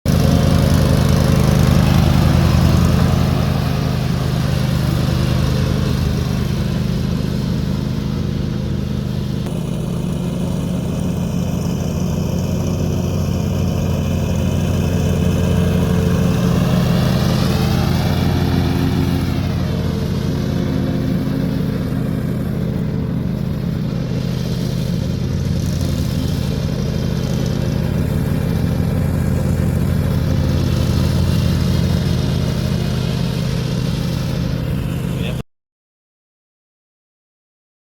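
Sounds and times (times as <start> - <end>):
lawn mower engine running: 0.0 - 35.4.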